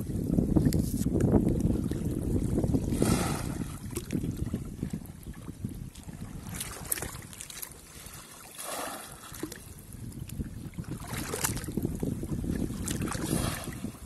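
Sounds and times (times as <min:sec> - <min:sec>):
wind rumbling on microphone: 0:00.0 - 0:14.0
water sloshing and splashing: 0:00.6 - 0:14.0.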